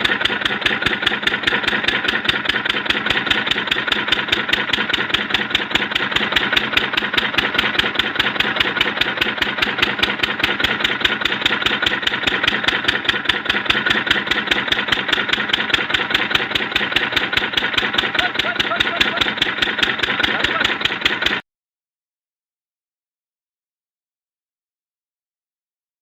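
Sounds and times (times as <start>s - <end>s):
diesel engine thumping: 0.0s - 21.4s.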